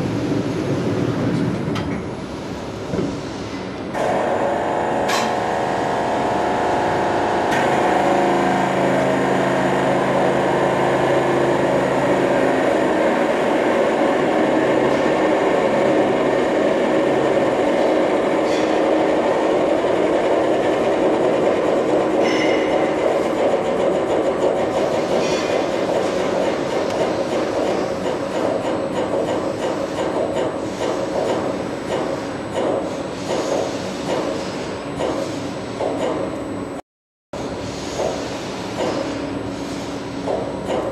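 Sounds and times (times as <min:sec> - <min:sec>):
hydraulic pump running: 0:02.6 - 0:36.4, 0:37.4 - 0:40.9.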